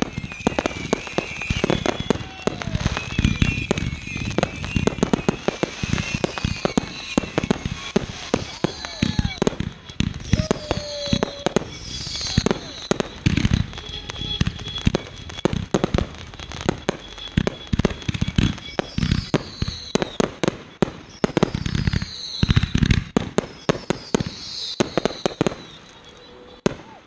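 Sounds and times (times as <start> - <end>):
deep firework booms: 0.0 - 25.8
falling firework whistles: 0.0 - 27.0
fireworks crackling bangs: 0.0 - 27.0.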